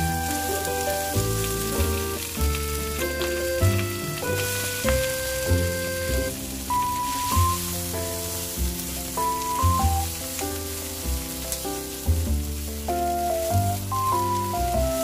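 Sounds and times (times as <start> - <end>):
food sizzling in a wok: 0.0 - 15.0
instrumental background music: 0.0 - 15.0.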